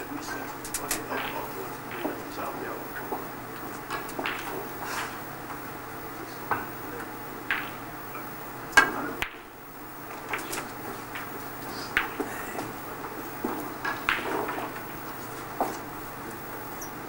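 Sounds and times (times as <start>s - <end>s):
snooker balls clacking: 0.1s - 5.6s, 6.2s - 16.5s
cue and balls knocking: 0.5s - 5.6s, 6.4s - 16.4s.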